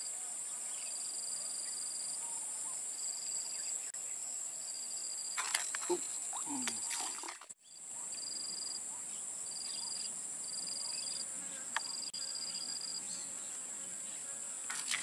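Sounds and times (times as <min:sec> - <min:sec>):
insect trills: 0:00.0 - 0:15.0
insects droning: 0:00.0 - 0:15.0.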